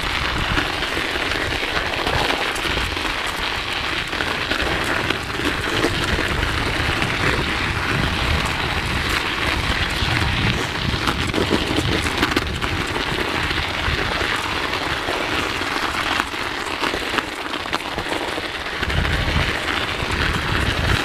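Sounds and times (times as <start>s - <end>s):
bike tyres crunching snow: 0.0s - 21.0s
wind buffeting microphone: 0.0s - 21.0s.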